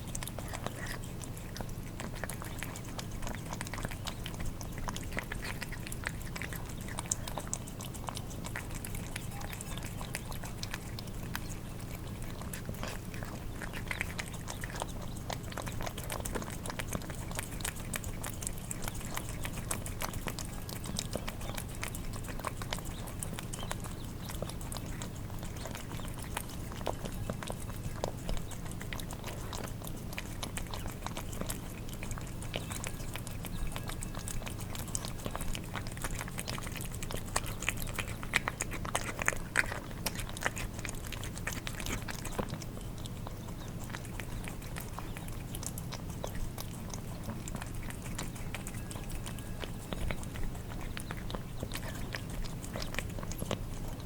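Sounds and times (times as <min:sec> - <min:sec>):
cats licking and chewing food: 0:00.0 - 0:54.0
steady low hum: 0:00.0 - 0:54.0.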